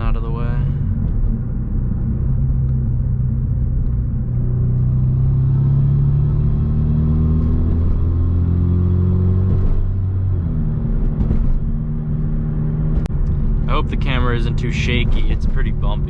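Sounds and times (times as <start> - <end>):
car engine droning in cabin: 0.0 - 16.0.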